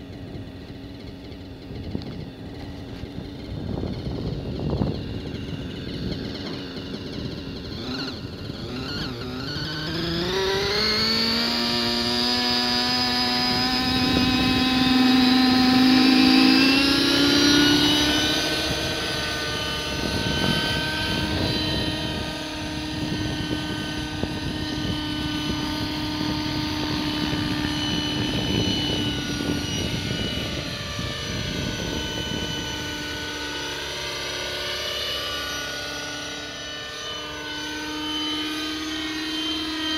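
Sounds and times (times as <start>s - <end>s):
model helicopter engine and rotor: 0.0s - 39.9s.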